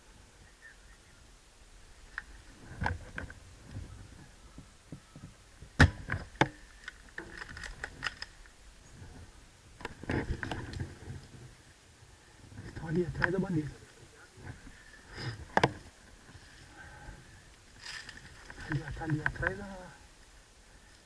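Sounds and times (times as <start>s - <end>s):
faint rustling: 1.8s - 21.0s.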